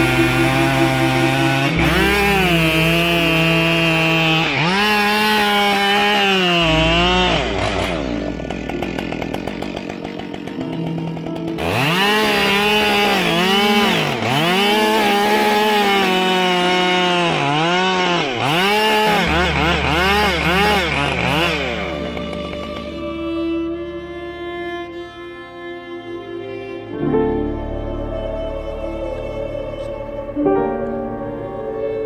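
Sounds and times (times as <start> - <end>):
chainsaw cutting wood: 0.0 - 27.7.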